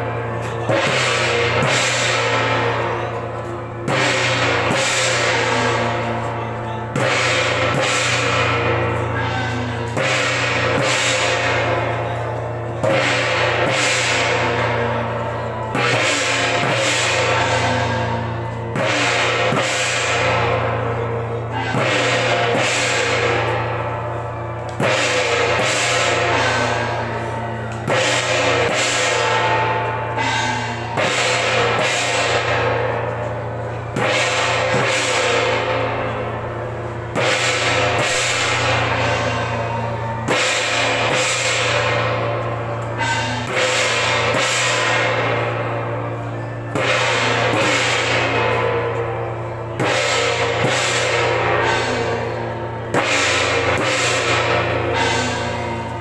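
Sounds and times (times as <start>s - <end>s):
cymbals and gongs crashing: 0.0s - 56.0s
drumming: 0.0s - 56.0s.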